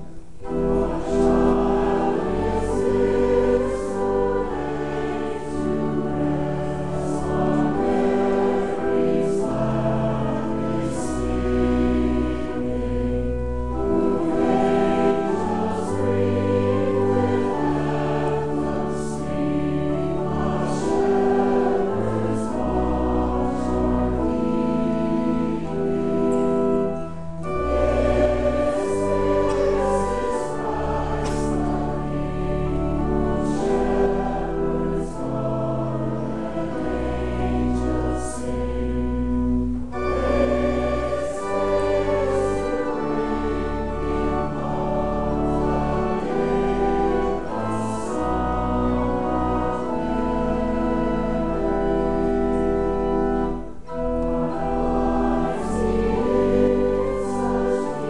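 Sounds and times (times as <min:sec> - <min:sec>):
congregation singing a hymn: 0:00.0 - 0:58.0
pipe organ chords: 0:00.0 - 0:58.0.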